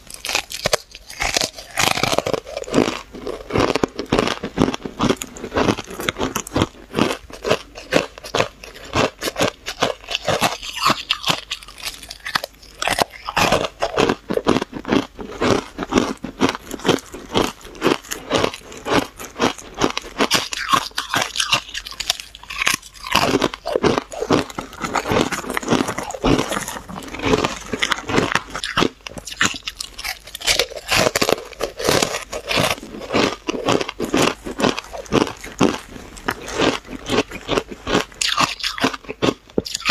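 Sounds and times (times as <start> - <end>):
ice chunks crunched and chewed: 0.0 - 39.9.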